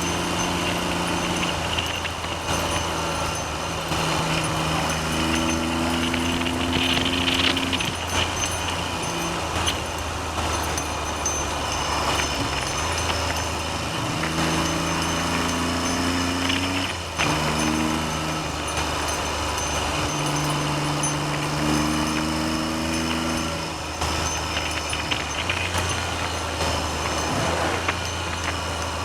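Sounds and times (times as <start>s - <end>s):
motorcycle engine pulling: 0.0s - 29.0s.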